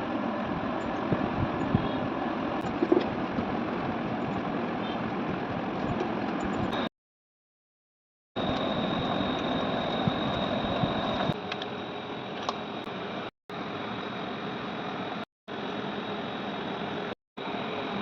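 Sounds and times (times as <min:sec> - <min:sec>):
ceiling fan whirring: 0:00.0 - 0:06.8, 0:08.4 - 0:18.0.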